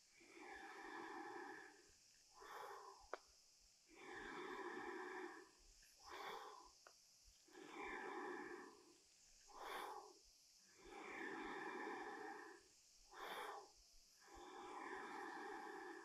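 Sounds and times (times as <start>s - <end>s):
woman breathing deeply: 0.0s - 3.2s, 3.9s - 16.0s.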